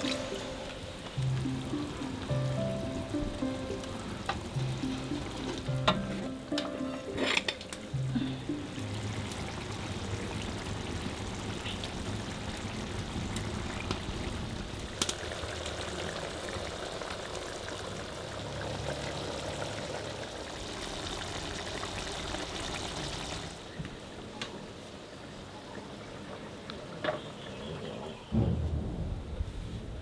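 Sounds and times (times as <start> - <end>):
food cooking hiss: 0.0 - 25.2.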